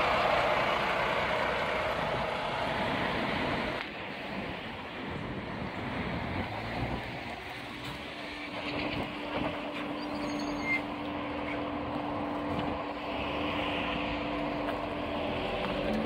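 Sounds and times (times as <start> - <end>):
electric bus hum: 0.0 - 16.0
rushing background noise: 0.0 - 16.0.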